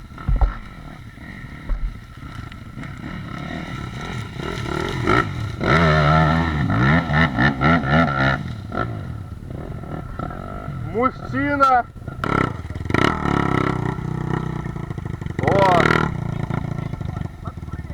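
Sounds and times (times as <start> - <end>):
small engine revving: 0.0 - 17.9.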